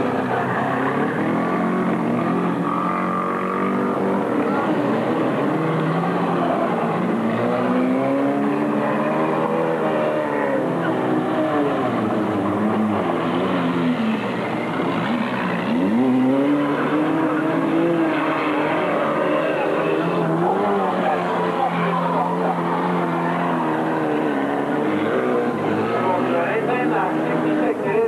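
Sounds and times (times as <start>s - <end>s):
racing car engines revving: 0.0s - 28.0s.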